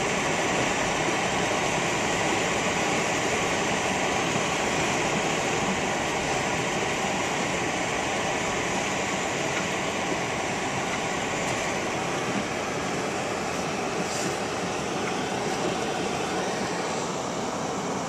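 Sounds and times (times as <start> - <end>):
blizzard wind blowing: 0.0 - 18.0.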